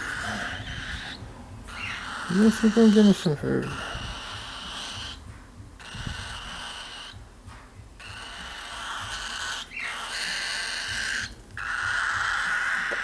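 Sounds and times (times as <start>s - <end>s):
bird chick begging calls: 0.0s - 5.2s, 5.8s - 7.2s, 8.0s - 13.0s.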